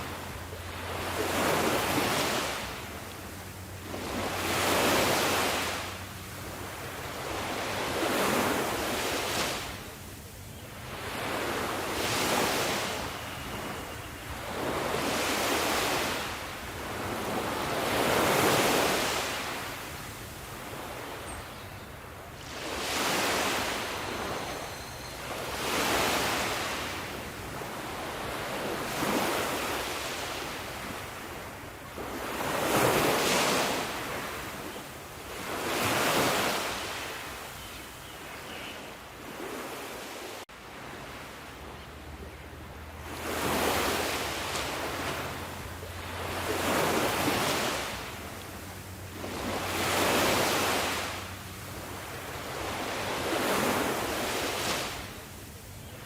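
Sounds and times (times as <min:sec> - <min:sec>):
sea waves breaking: 0:00.0 - 0:10.1, 0:10.8 - 0:21.3, 0:22.0 - 0:37.5, 0:39.2 - 0:55.6.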